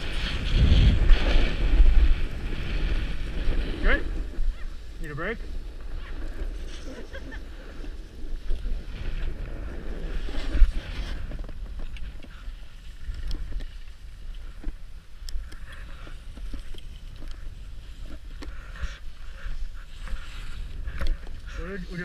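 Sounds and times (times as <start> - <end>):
snowboard scraping over snow: 0.0 - 22.0
wind buffeting microphone: 0.0 - 22.0.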